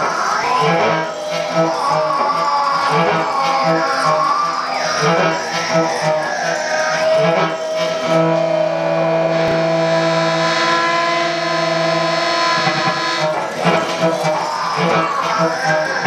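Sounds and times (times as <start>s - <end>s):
held drone: 0.0s - 16.0s.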